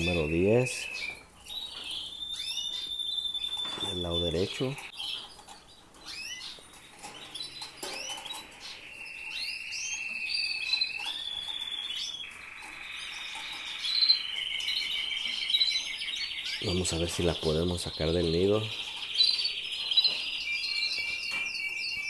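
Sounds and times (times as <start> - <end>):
canaries trilling: 0.0 - 22.0.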